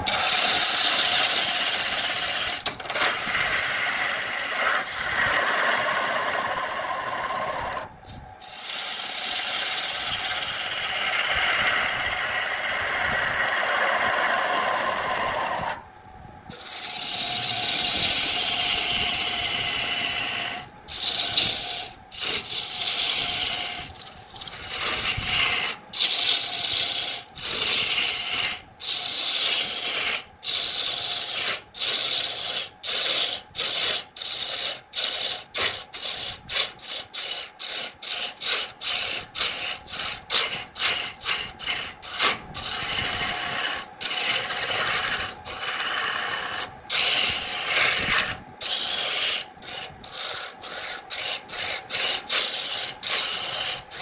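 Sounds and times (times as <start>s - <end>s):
turning tool hissing cut: 0.0s - 15.8s, 16.5s - 54.0s
lathe humming: 0.0s - 54.0s.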